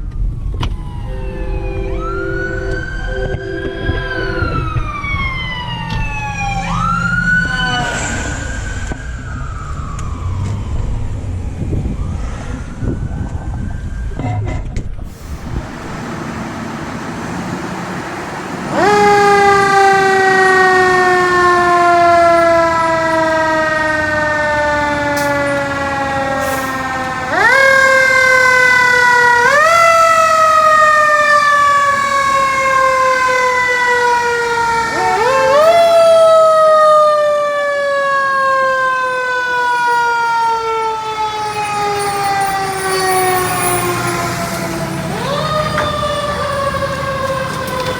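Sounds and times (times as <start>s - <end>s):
fire truck siren wailing: 0.0s - 47.9s.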